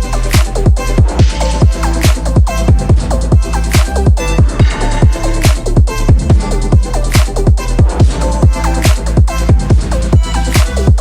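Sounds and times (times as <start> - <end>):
gliding synth notes: 0.0 - 10.6
kick-drum beat: 0.0 - 11.0.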